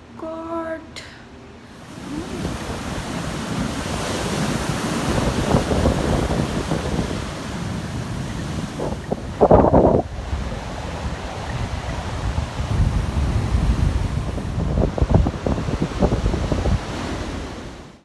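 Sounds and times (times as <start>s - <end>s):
sea surf washing on beach: 1.6s - 18.0s
wind on microphone: 1.7s - 18.0s.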